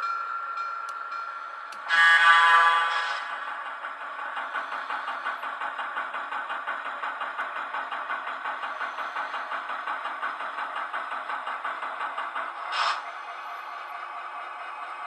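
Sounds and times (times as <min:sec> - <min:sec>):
model locomotive engine sound: 0:00.0 - 0:15.0.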